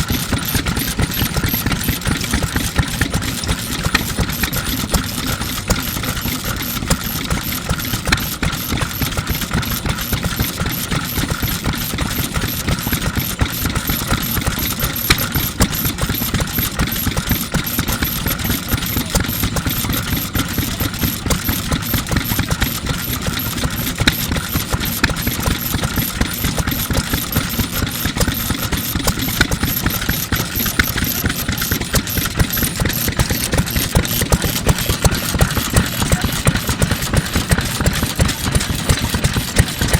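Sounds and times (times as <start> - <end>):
stationary oil engine running: 0.0 - 39.9.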